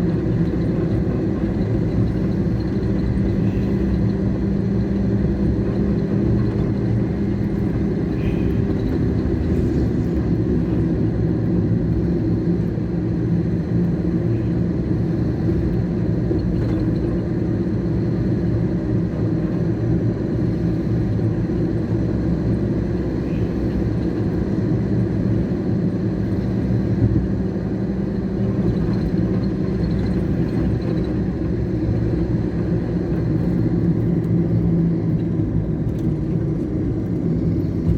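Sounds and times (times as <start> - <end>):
engine-like hum: 0.0 - 37.9
road traffic rumble: 0.0 - 37.9
wind: 0.0 - 37.9.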